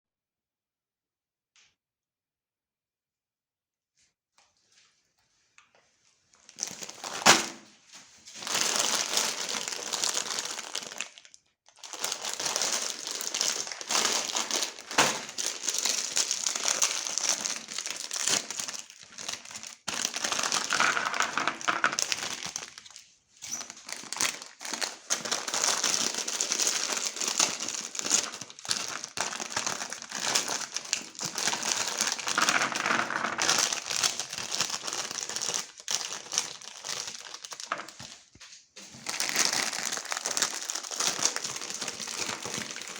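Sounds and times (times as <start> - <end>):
cookies and packaging crinkling: 5.7 - 42.9.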